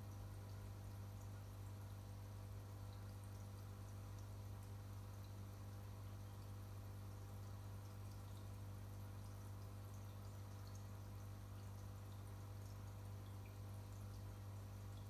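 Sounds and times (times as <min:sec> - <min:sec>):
water dripping and bubbling: 0:02.9 - 0:15.0.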